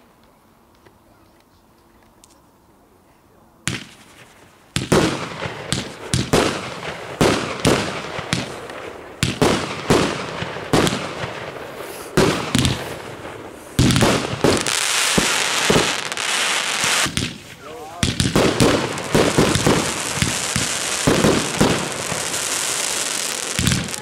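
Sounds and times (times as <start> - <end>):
fireworks crackling hiss: 3.1 - 24.0
firework shells bursting: 3.7 - 24.0.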